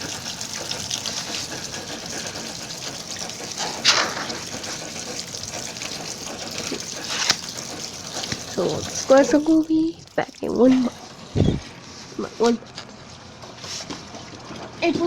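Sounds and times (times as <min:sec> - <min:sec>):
washing machine water rushing: 0:00.0 - 0:12.6, 0:13.2 - 0:15.0.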